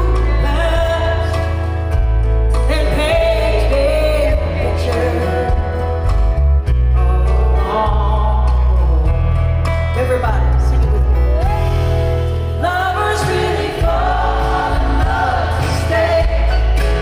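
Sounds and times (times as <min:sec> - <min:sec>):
live country band playing: 0:00.0 - 0:17.0
woman singing lead: 0:00.0 - 0:17.0.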